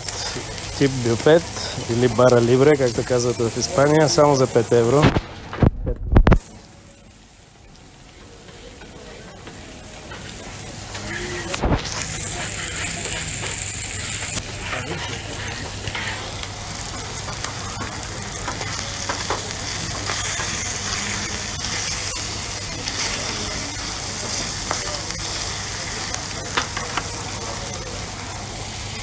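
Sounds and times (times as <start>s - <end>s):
meat sizzling on griddle: 0.0s - 5.2s, 6.3s - 29.0s.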